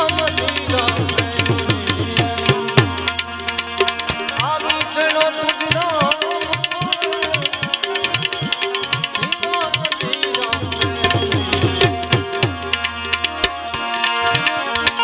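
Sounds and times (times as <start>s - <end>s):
harmonium holding notes: 0.0s - 15.0s
tabla playing fast rhythm: 0.0s - 15.0s.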